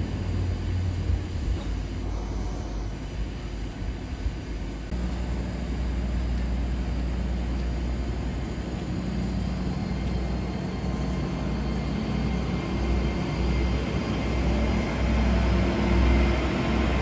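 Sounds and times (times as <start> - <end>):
train rumbling past platform: 0.0 - 17.0.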